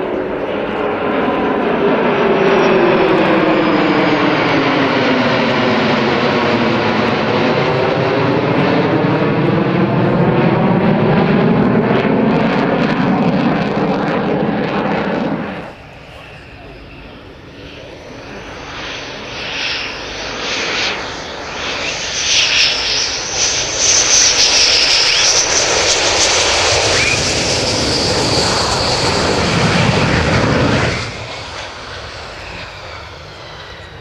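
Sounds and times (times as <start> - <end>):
jet engines whining and rumbling: 0.0 - 34.0.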